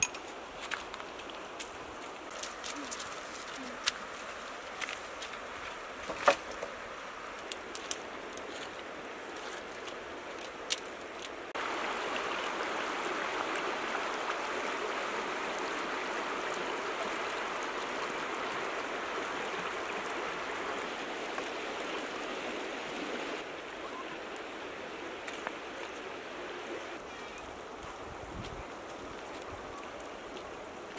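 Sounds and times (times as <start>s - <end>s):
river rushing over stones: 0.0s - 30.9s.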